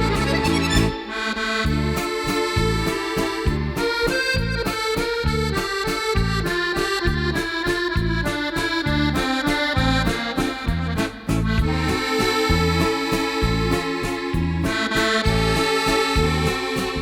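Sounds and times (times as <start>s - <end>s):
accordion music: 0.0s - 17.0s.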